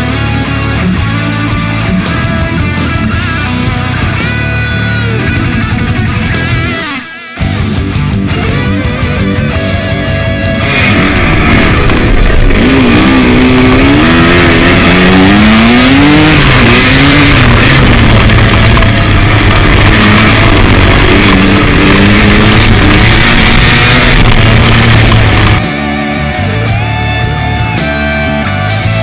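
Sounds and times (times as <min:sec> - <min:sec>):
dirt bike engine accelerating: 0:00.0 - 0:29.0.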